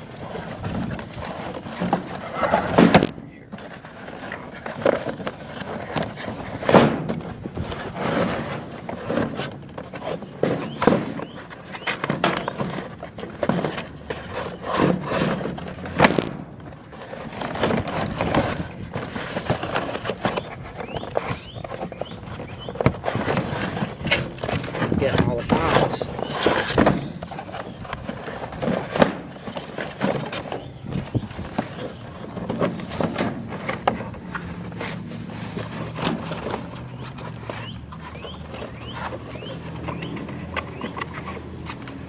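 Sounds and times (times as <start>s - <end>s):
cardboard rustling and scraping: 0.0s - 42.0s.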